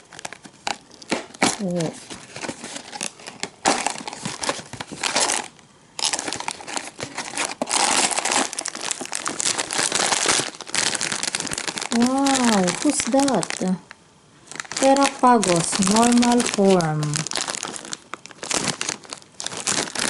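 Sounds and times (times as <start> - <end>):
snack packaging crinkling: 0.0 - 20.0.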